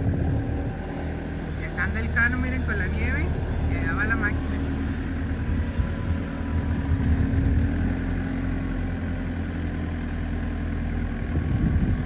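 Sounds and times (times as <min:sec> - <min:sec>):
snow clearing machine engine hum: 0:00.0 - 0:12.0.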